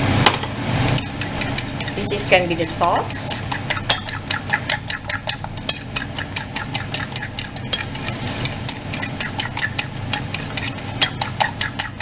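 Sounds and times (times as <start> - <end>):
low steady hum: 0.0 - 12.0
fork beating eggs in bowl: 0.8 - 12.0
fork tapping ceramic bowl: 0.9 - 2.0, 3.3 - 12.0.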